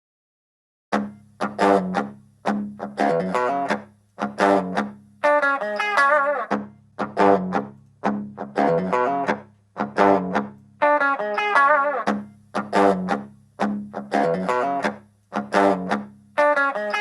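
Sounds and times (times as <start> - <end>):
electric guitar riff: 0.9 - 17.0.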